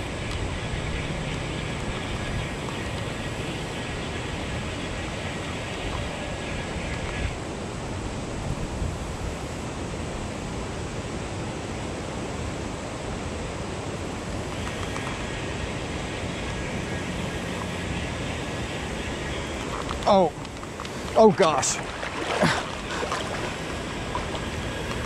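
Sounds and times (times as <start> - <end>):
river water flowing: 0.0 - 25.0.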